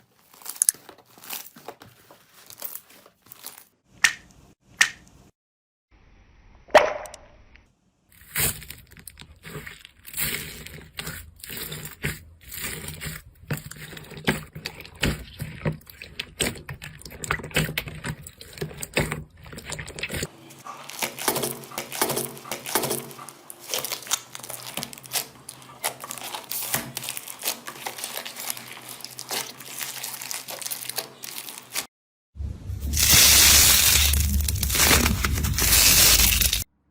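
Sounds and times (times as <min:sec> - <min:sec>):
slime squishing: 0:00.0 - 0:03.7, 0:08.2 - 0:31.9, 0:32.9 - 0:36.7.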